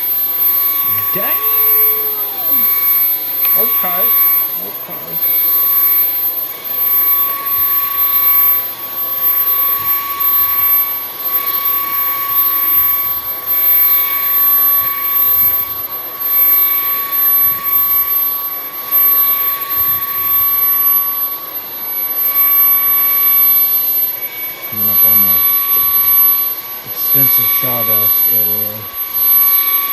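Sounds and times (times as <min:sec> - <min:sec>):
stick vacuum whining: 0:00.0 - 0:29.9.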